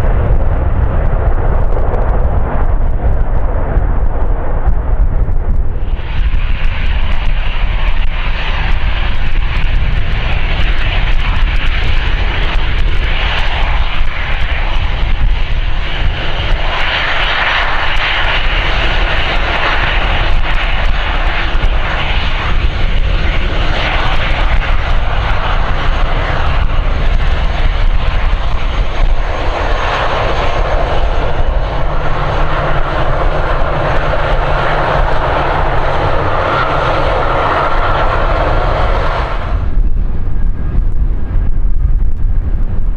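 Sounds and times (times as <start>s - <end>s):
aircraft engine rumble: 0.0s - 42.9s.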